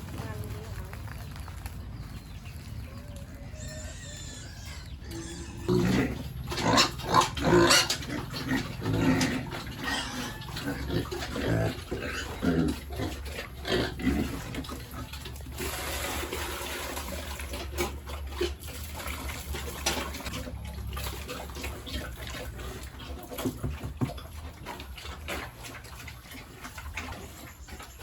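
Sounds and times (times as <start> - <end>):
pigs grunting and squealing: 2.9 - 28.0.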